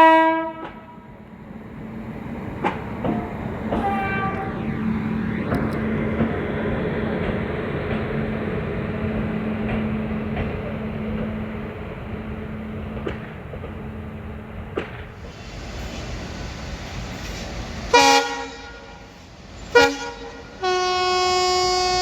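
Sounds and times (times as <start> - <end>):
locomotive hum: 0.0 - 22.0
wheels rumbling on rail: 0.0 - 22.0.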